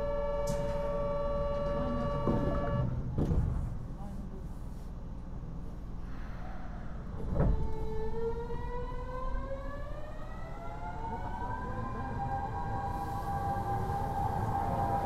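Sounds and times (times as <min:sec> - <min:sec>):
low train rumble: 0:00.0 - 0:15.0.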